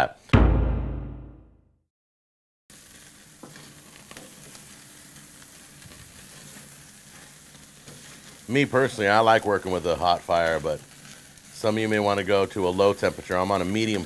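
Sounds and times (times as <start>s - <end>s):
chicken sizzling on a grill: 2.7s - 14.0s.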